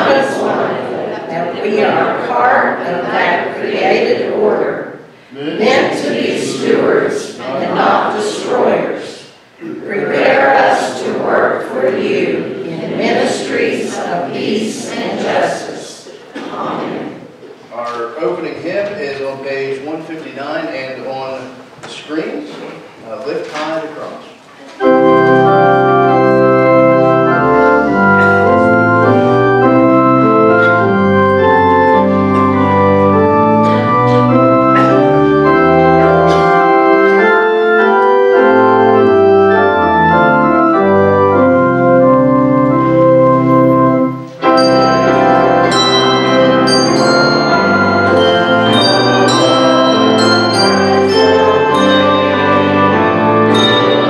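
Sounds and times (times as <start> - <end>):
organ playing a hymn: 0.0 - 9.2, 9.8 - 15.8, 24.7 - 54.0.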